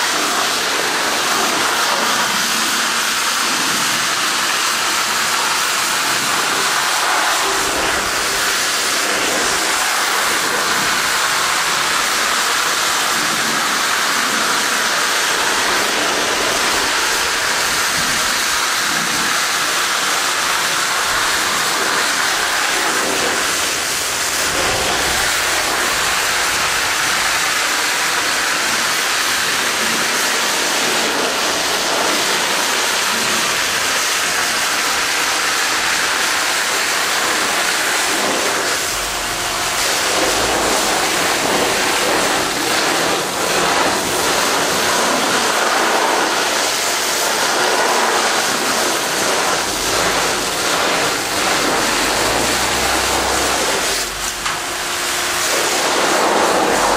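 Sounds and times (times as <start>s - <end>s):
water jet hissing and splashing: 0.0s - 56.9s.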